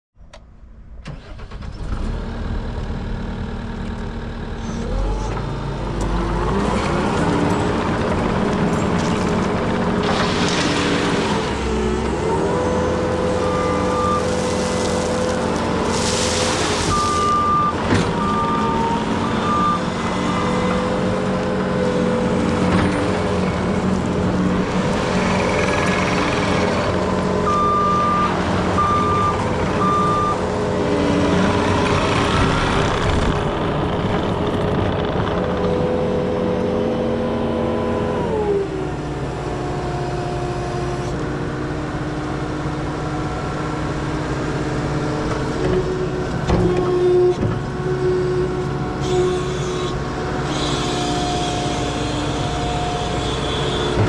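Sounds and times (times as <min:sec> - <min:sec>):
diesel engine running: 0:01.1 - 0:54.0.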